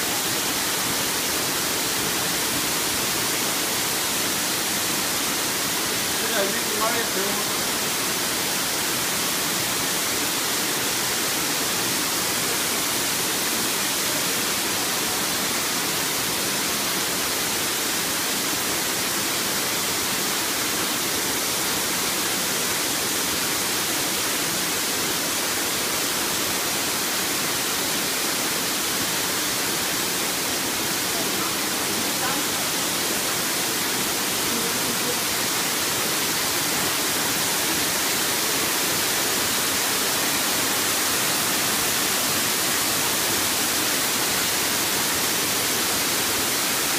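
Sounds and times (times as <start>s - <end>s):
water streams falling on steel grating: 0.0s - 46.9s.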